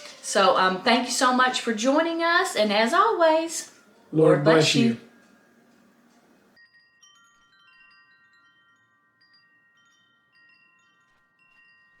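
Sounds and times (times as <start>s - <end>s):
faint chimes tinkling: 0.0s - 12.0s.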